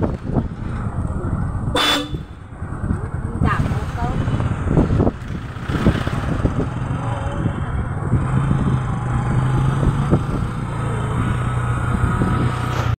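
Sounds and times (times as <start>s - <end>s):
road noise: 0.0s - 12.9s.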